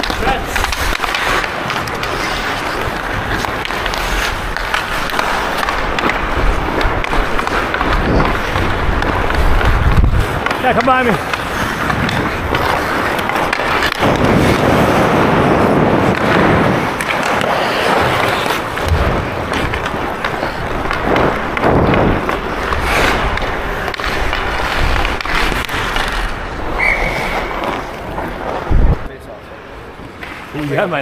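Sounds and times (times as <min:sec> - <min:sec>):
skate blades scraping ice: 0:00.0 - 0:31.0.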